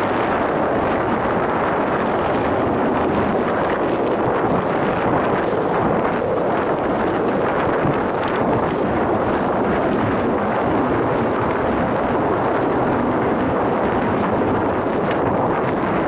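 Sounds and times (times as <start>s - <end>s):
bike rattling: 0.0s - 16.0s
tyres rolling over dirt trail: 0.0s - 16.0s
wind rush on microphone: 0.0s - 16.0s.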